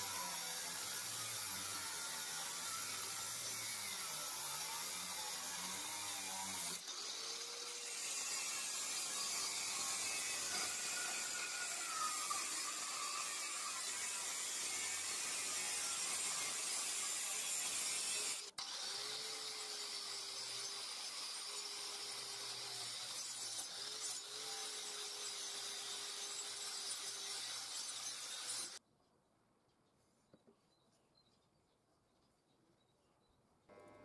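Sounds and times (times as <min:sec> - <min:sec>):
angle grinder cutting steel: 0:00.0 - 0:28.8.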